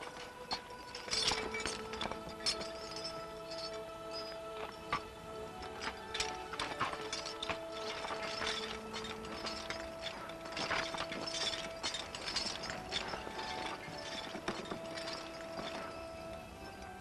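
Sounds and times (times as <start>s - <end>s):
chain clinking and rattling: 0.0s - 17.0s.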